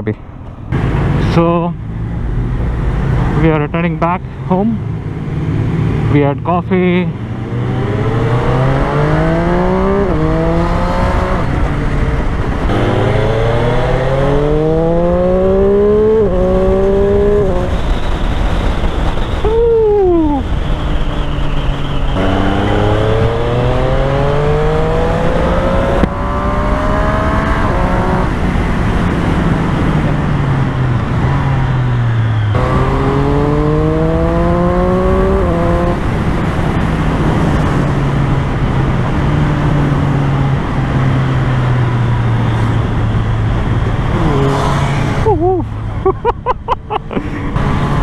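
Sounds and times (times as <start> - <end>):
motorcycle engine accelerating: 0.7 - 48.0
wind rushing over microphone: 6.8 - 48.0.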